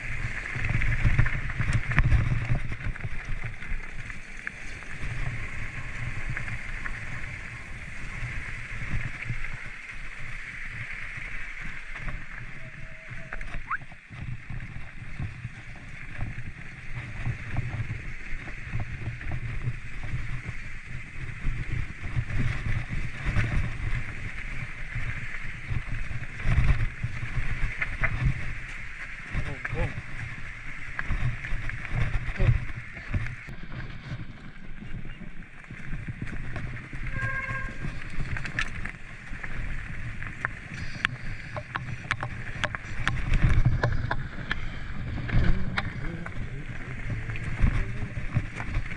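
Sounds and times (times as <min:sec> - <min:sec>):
bike clicking and rattling: 0:00.0 - 0:48.9
bike tyres rumbling on trail: 0:00.0 - 0:48.9
wind on microphone: 0:00.0 - 0:48.9.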